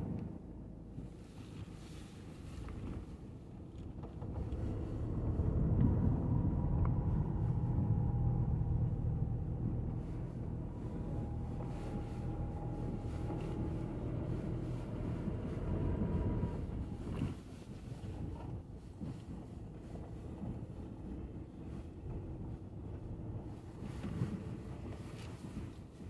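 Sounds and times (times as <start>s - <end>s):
car engine rumble from inside: 0.0s - 26.0s.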